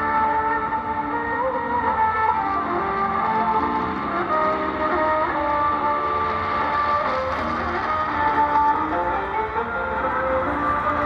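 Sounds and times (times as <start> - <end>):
music through shortwave radio speaker: 0.0 - 11.0.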